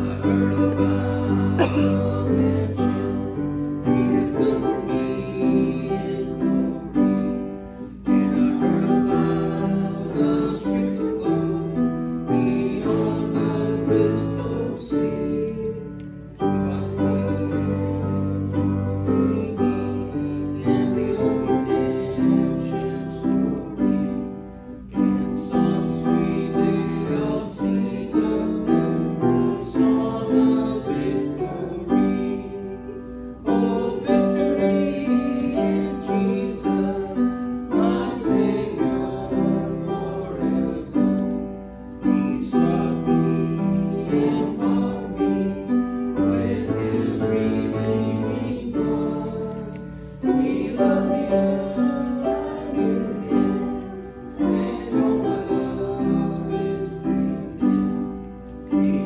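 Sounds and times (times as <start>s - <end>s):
piano playing a slow hymn: 0.0s - 59.0s.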